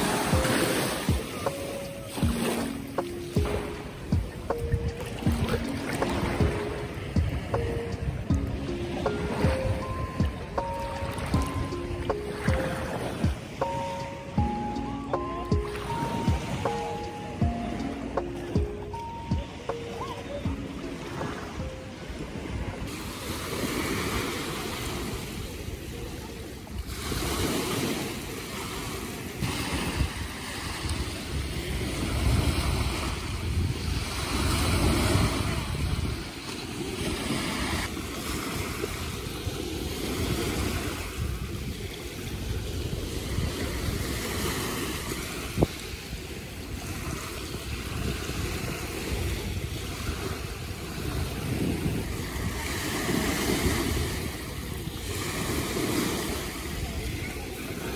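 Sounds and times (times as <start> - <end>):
waves washing onto beach: 0.0 - 57.9
wind buffeting microphone: 3.0 - 13.8, 18.5 - 57.9.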